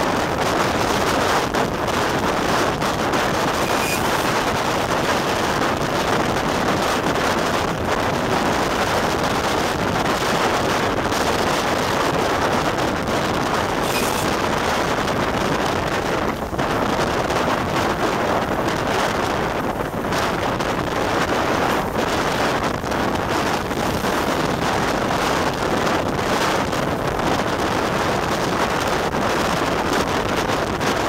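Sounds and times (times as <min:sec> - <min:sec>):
train running noise: 0:00.0 - 0:31.0
wind rushing over microphone: 0:00.0 - 0:31.0.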